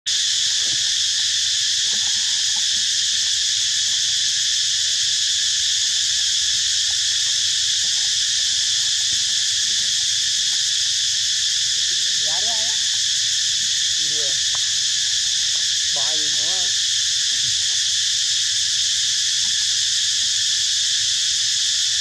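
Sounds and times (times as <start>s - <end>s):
chorus of forest insects: 0.0s - 22.0s.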